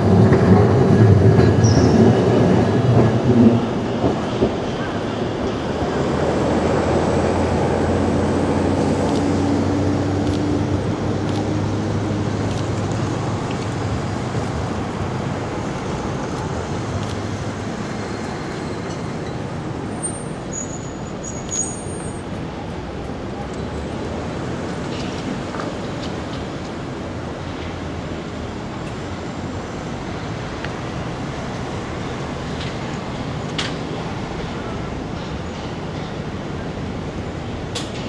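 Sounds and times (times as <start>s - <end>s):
passing vehicles: 0.0s - 38.0s.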